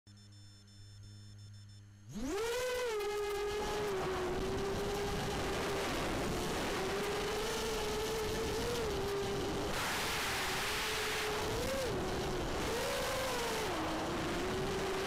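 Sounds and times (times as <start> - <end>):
quadcopter motors whining: 2.0 - 15.0.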